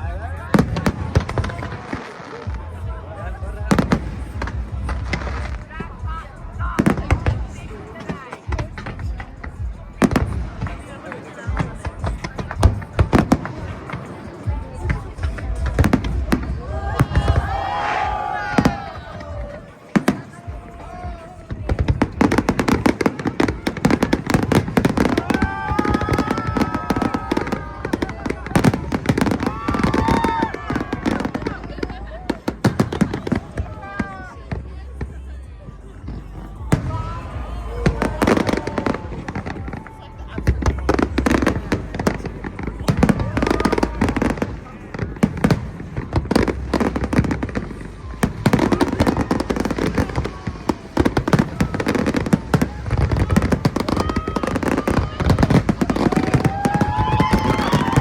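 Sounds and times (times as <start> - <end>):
fireworks crackling and popping: 0.0 - 58.0.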